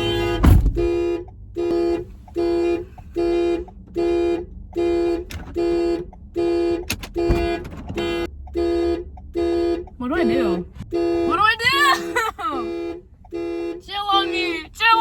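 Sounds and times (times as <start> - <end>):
car horn alarm honks: 0.0 - 15.0.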